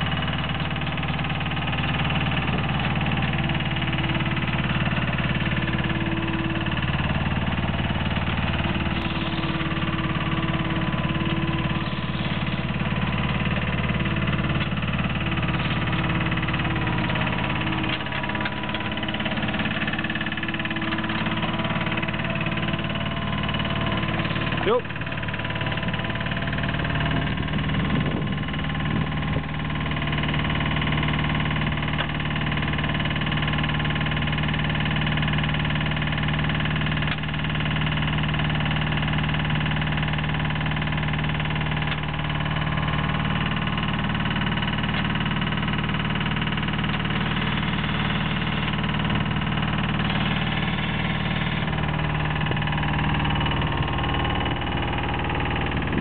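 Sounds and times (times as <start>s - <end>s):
drilling rig engine running: 0.0s - 56.0s.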